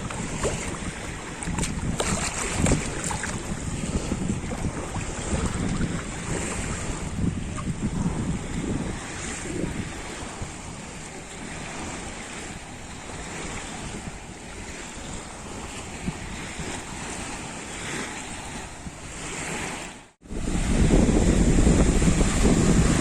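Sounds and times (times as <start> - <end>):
sea surf washing ashore: 0.0 - 23.0
wind rumbling on microphone: 0.0 - 23.0.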